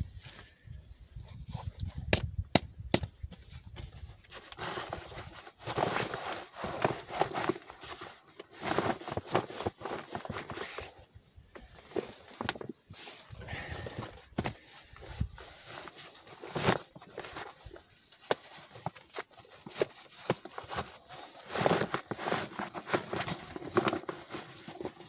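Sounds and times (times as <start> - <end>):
rustling of fabric and gear: 3.1 - 25.0.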